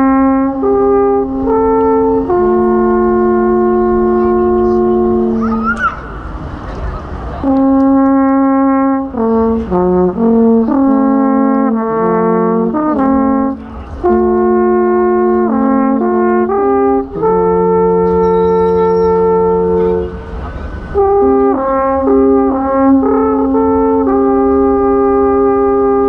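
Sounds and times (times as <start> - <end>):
alphorn slow melody: 0.0 - 6.6, 7.4 - 26.0.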